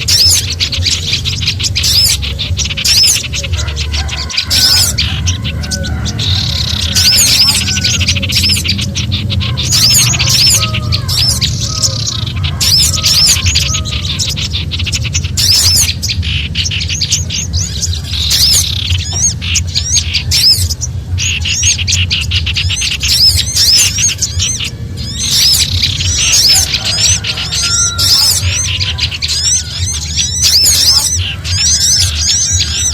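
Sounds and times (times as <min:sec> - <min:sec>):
songbirds alarm calls: 0:00.0 - 0:32.9
steady low rumble: 0:00.0 - 0:32.9.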